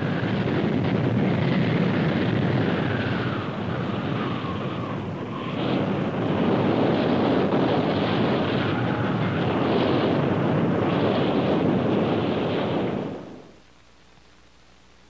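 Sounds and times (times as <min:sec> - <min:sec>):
tornado wind roaring: 0:00.0 - 0:13.6.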